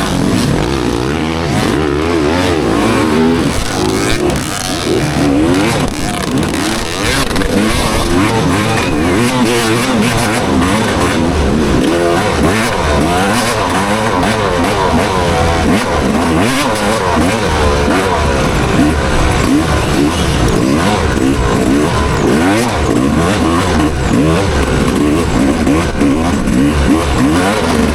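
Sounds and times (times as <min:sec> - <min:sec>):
motocross bike engine revving: 0:00.0 - 0:27.9.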